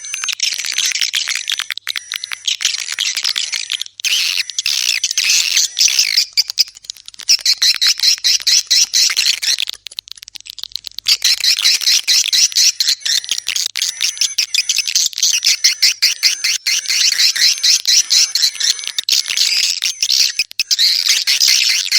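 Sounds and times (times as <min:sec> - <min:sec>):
swiftlets twittering: 0:00.0 - 0:21.9.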